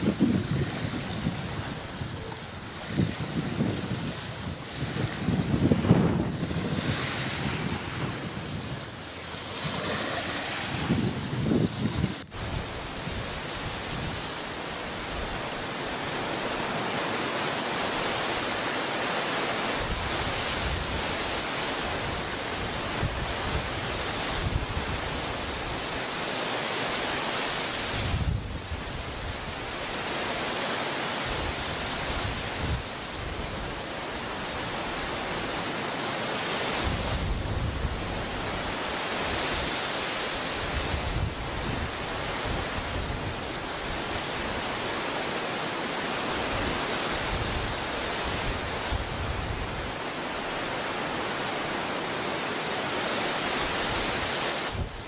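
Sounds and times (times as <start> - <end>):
wind gusts hitting microphone: 0.0 - 18.7, 19.7 - 26.1, 27.8 - 30.2, 31.2 - 35.9, 36.6 - 45.2, 45.8 - 52.3, 52.9 - 55.0
strong wind blowing: 0.0 - 26.2, 27.8 - 30.4, 31.2 - 55.0.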